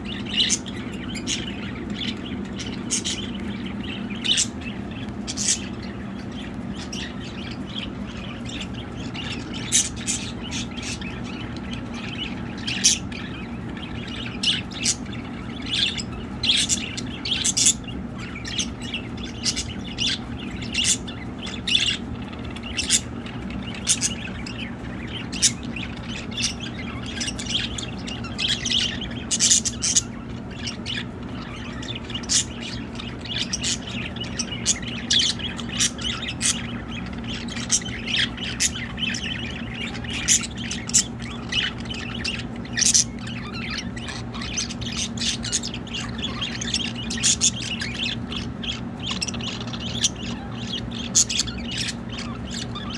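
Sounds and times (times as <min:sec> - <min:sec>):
budgerigars chirping and chattering: 0:00.0 - 0:52.9
steady low hum: 0:00.0 - 0:52.9.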